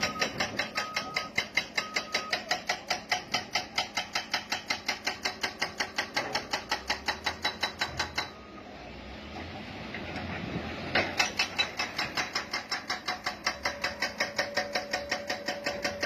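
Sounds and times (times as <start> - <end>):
steel crawler tracks clacking: 0.0 - 16.0.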